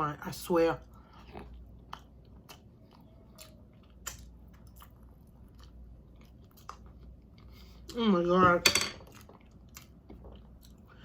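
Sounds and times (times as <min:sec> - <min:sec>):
person chewing food: 0:00.8 - 0:08.0, 0:09.1 - 0:11.0.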